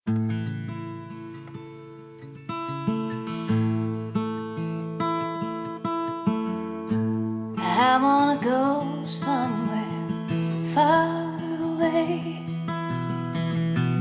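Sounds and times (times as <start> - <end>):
acoustic guitar picked chords: 0.1 - 14.0.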